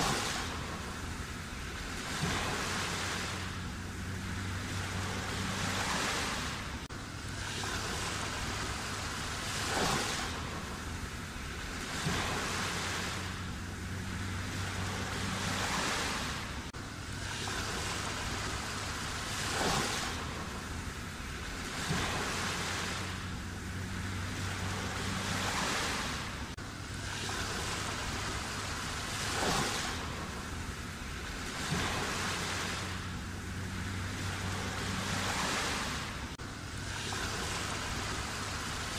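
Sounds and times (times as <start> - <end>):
low steady hum: 0.0 - 38.9
waves washing onto shore: 0.0 - 38.9.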